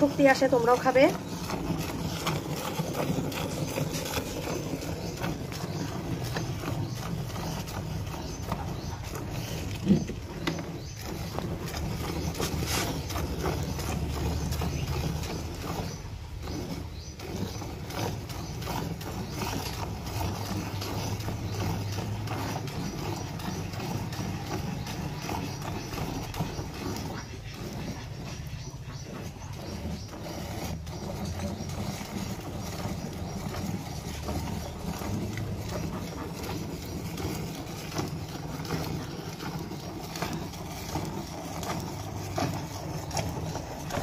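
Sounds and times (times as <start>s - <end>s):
milk squirting into steel pail: 0.0s - 44.0s.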